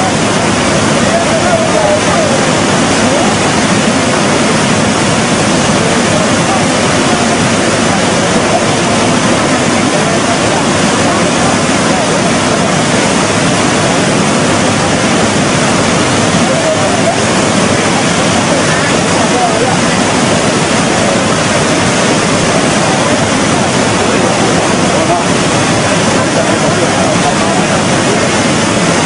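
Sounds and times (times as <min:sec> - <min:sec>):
flooded river rushing: 0:00.0 - 0:29.0.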